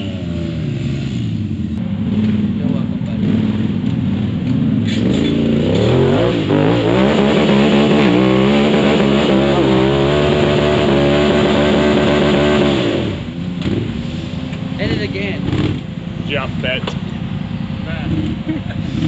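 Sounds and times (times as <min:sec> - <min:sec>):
engine revving: 0:00.0 - 0:14.2, 0:14.8 - 0:19.0.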